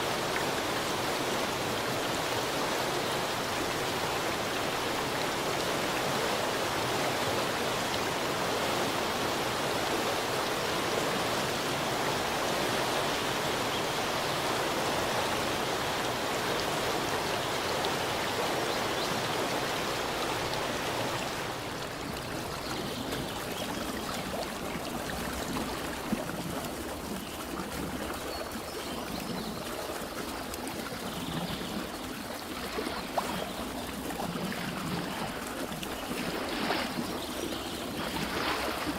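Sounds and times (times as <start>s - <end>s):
stream rushing water: 0.0s - 38.9s.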